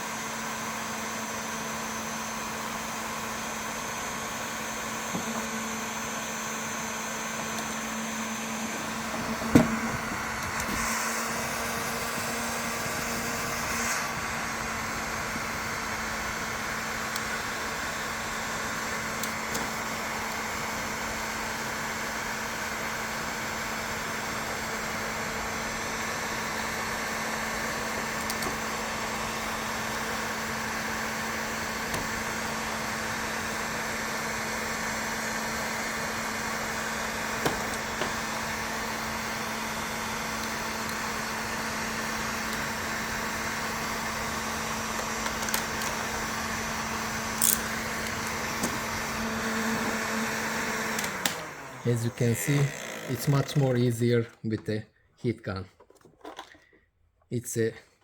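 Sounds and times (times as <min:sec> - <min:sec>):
heat gun fan humming: 0:00.0 - 0:54.4.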